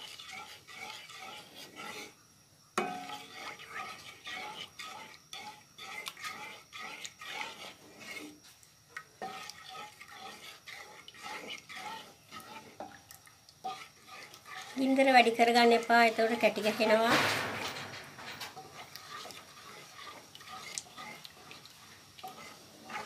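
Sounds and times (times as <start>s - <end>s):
wooden spoon scraping a wok: 0.0s - 2.2s, 2.8s - 8.6s, 9.2s - 13.0s, 13.6s - 23.0s.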